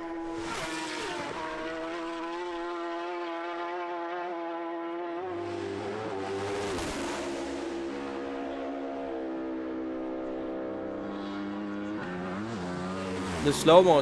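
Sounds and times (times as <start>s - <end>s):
racing motorcycle engine revving: 0.0s - 14.0s.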